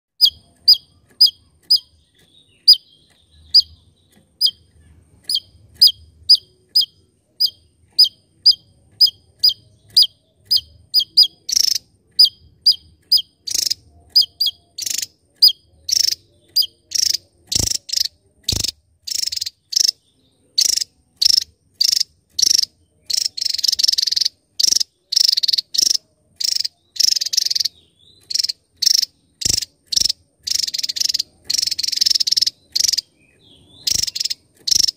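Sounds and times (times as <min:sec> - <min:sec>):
bird singing sharp high notes: 0:00.2 - 0:34.9.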